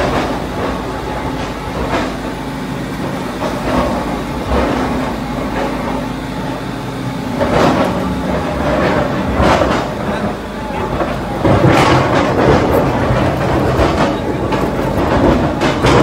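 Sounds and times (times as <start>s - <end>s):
drilling rig engine and hydraulics: 0.0s - 16.0s.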